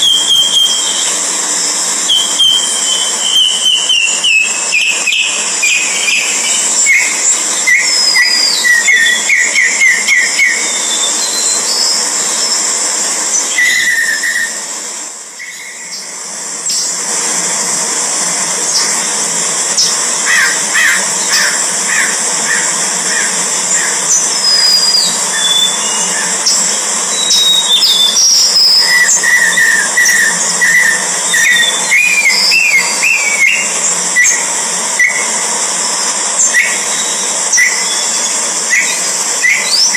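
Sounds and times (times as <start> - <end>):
birds chirping and whistling: 0.0 - 14.7, 15.4 - 17.0, 19.8 - 35.4, 36.3 - 39.9
steady high-pitched hiss: 0.0 - 39.9.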